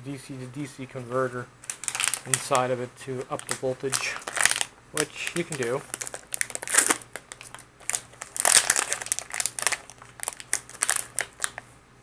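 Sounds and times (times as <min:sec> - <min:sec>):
plastic bag crinkling: 0:01.6 - 0:11.6.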